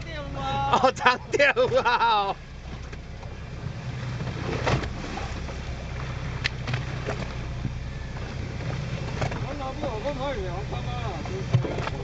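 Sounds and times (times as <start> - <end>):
boat engine humming: 0.0 - 12.0
wind and water rushing along hull: 0.0 - 12.0.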